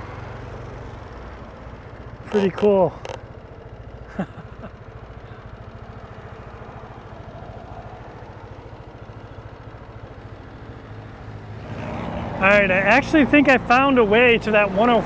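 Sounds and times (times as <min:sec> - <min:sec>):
motorbike engine idling: 0:00.0 - 0:15.0.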